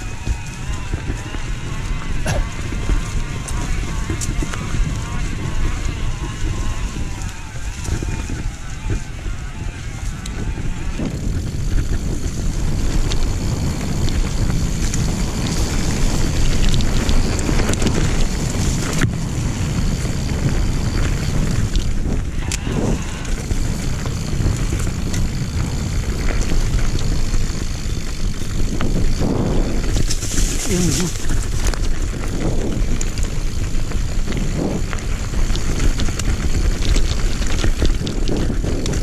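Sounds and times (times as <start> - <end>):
bike clicks and knocks: 0.0 - 9.6, 10.3 - 39.0
tyres rolling over dirt and leaves: 0.0 - 39.0
wind buffeting microphone: 0.0 - 39.0.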